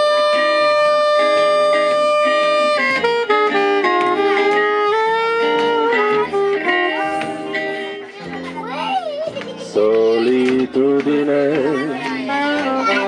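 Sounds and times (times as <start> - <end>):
lead guitar melody: 0.0 - 13.0
rhythm guitar accompaniment: 0.0 - 13.0.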